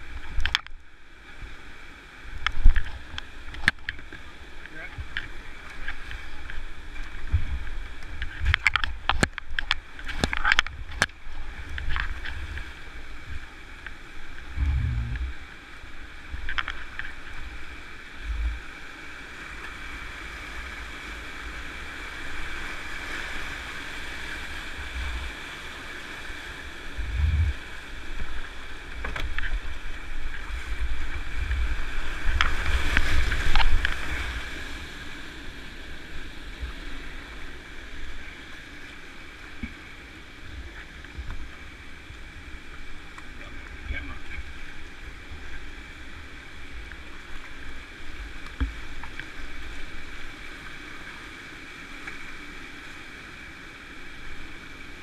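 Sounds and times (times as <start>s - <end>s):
paddle splashes: 0.0s - 55.0s
rushing whitewater: 0.0s - 55.0s.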